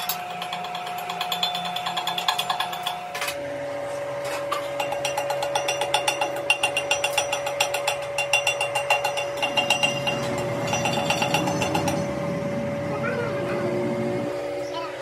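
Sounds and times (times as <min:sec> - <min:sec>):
steady hum: 0:02.3 - 0:15.0.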